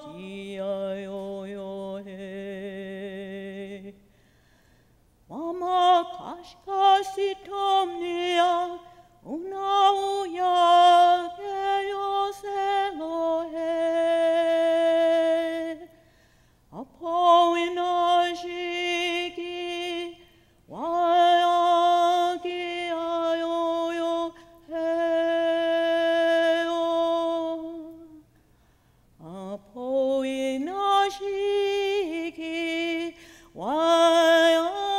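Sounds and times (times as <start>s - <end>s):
woman singing unaccompanied: 0.0s - 4.0s, 5.3s - 16.0s, 16.7s - 28.3s, 29.2s - 34.9s.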